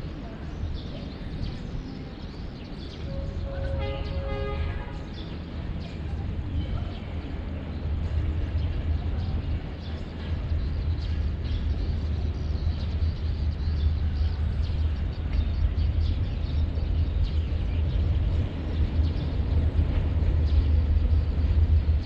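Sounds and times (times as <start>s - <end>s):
diesel train rumble: 0.0s - 22.0s.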